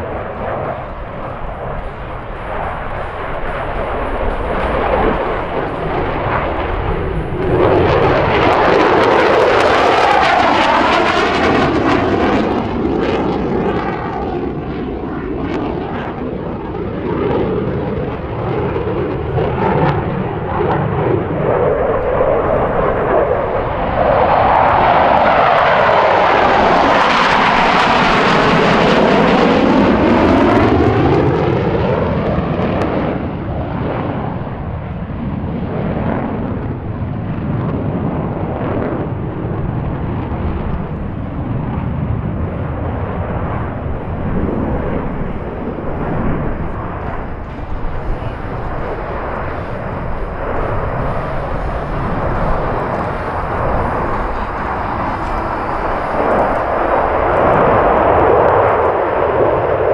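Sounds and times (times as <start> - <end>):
jets flying past: 0.0 - 59.9.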